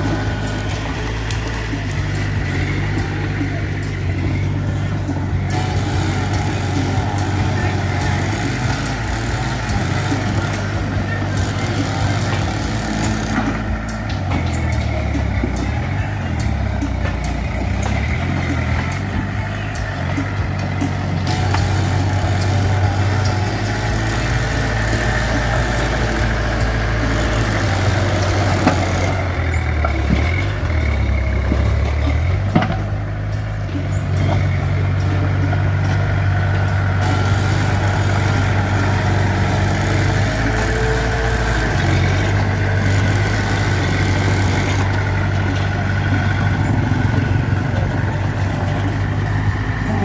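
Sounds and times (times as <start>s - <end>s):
bulldozer diesel engine droning: 0.0s - 50.0s.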